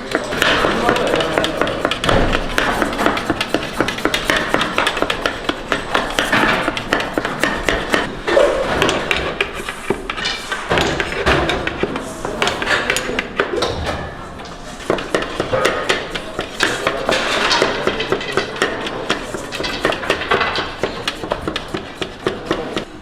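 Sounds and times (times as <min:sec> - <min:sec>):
hand tools knocking on surfaces: 0:00.0 - 0:13.8, 0:14.8 - 0:23.0.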